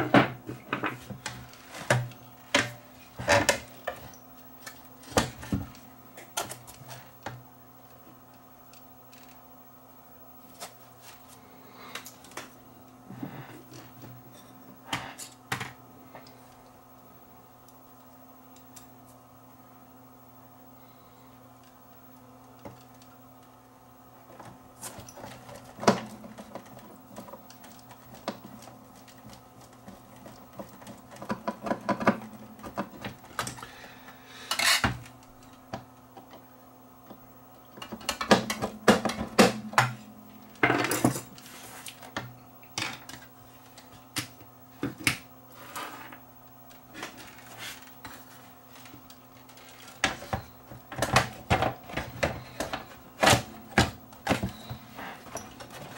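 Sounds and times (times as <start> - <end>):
faint steady hum: 0.0 - 55.9.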